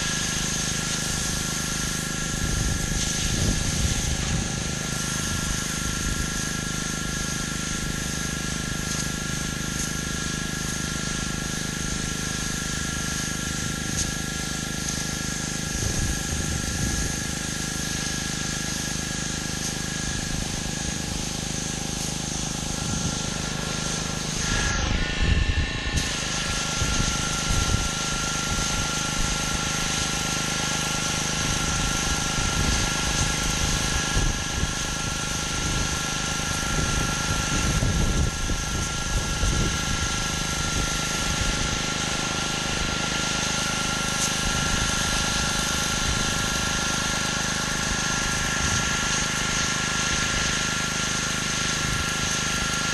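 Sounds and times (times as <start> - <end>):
pressure washer engine running: 0.0 - 52.9
water spray hissing on concrete: 0.0 - 52.9.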